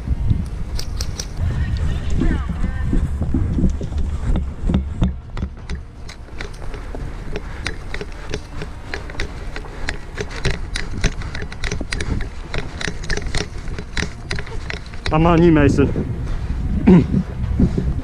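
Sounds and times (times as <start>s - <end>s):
wind rumble on microphone: 0.0s - 18.0s
running footsteps on grass: 1.0s - 18.0s.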